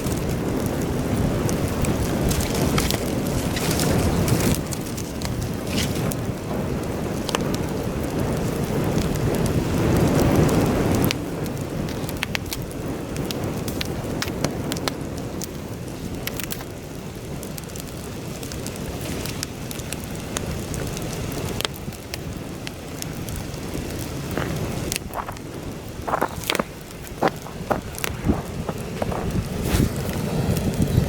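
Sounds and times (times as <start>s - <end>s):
campfire crackling and popping: 0.0s - 31.0s
wind buffeting microphone: 0.0s - 31.0s.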